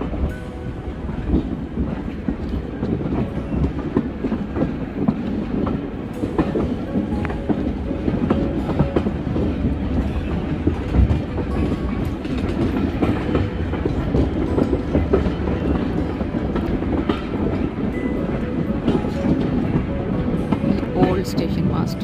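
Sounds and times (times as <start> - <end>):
train rumble: 0.0 - 22.0
wheels clattering on track: 0.0 - 22.0.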